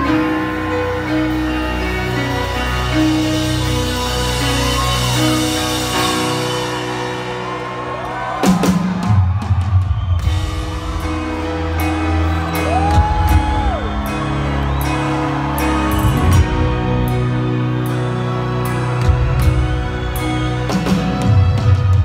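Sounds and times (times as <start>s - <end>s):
audience shouting and cheering: 0.0s - 22.0s
crowd whooping: 0.0s - 22.0s
live rock band playing a ballad: 0.0s - 22.0s.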